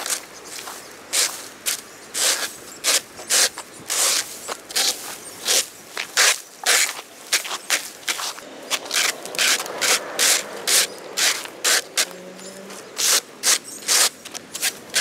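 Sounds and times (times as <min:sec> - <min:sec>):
rake scraping on concrete: 0:00.0 - 0:15.0.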